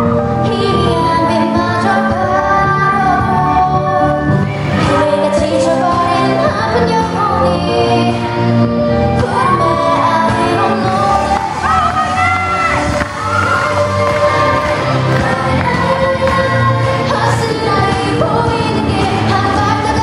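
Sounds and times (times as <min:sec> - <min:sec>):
pop song with female singing: 0:00.0 - 0:20.0.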